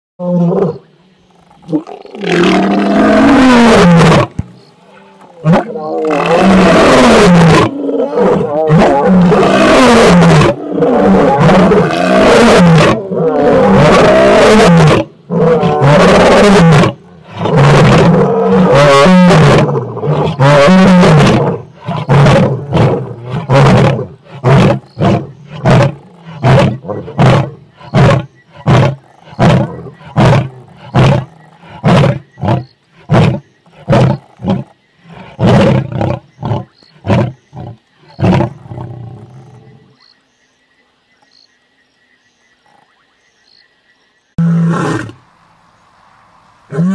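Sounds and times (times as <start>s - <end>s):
lion grunting: 1.5s - 40.0s
lion roaring: 1.5s - 40.0s.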